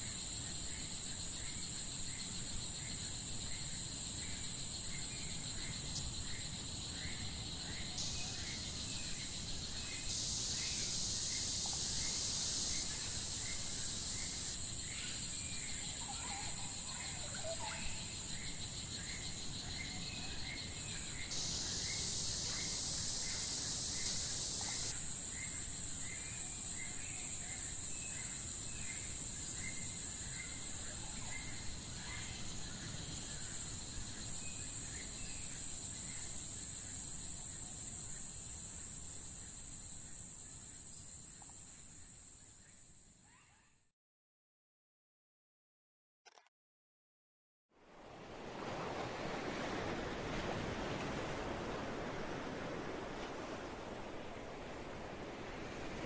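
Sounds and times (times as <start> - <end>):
insects droning: 0.0 - 43.7, 47.9 - 56.0.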